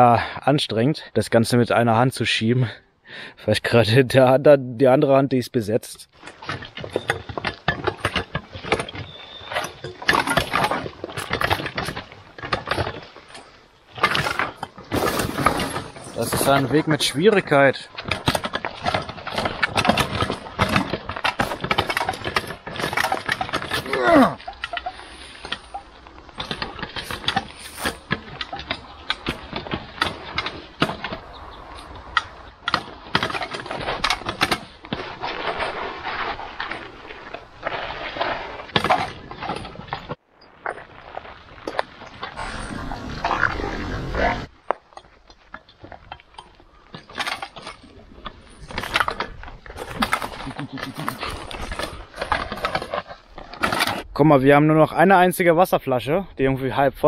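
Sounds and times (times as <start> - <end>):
hand cart clattering over stones: 6.0 - 55.3.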